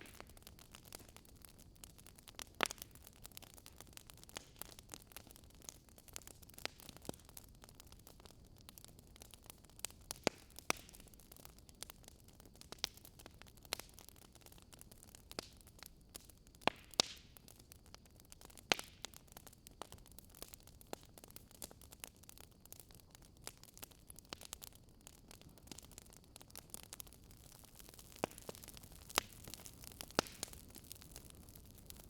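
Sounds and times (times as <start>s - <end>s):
firewood crackling and popping: 0.0s - 32.0s.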